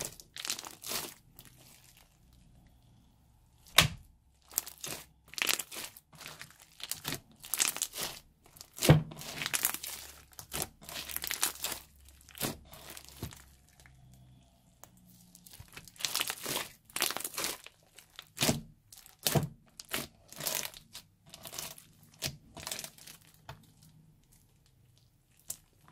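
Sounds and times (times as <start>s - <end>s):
slime crackling and tearing: 0.0s - 2.7s, 3.6s - 25.9s.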